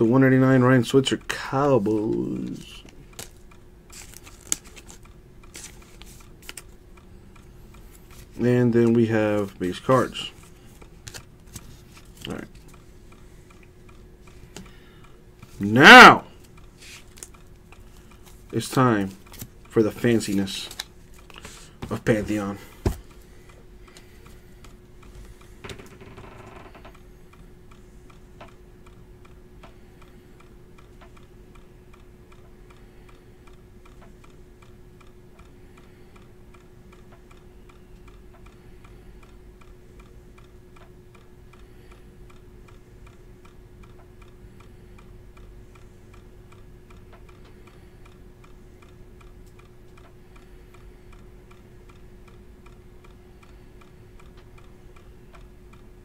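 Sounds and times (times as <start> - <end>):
faint steady hum: 0.0 - 56.0
light ticking: 0.2 - 56.0.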